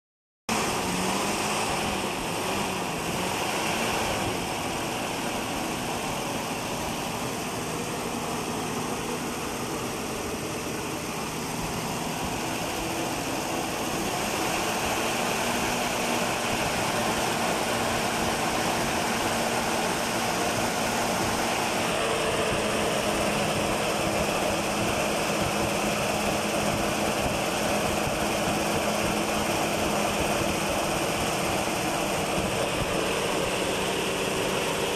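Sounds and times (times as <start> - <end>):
car engine running: 0.5 - 34.9.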